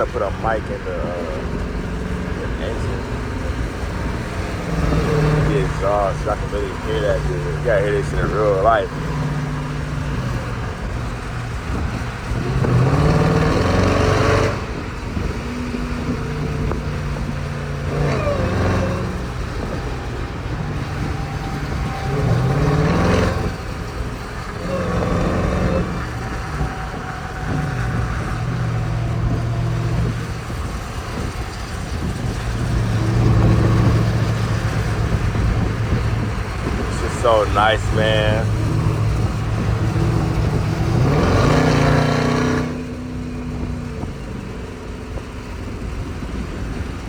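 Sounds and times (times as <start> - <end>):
car engine accelerating: 0.0 - 47.0.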